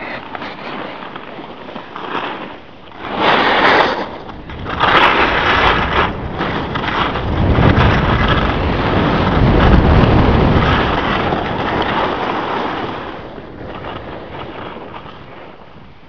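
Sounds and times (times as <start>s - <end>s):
skis scraping snow: 0.0s - 15.9s
wind rushing over microphone: 0.0s - 16.0s.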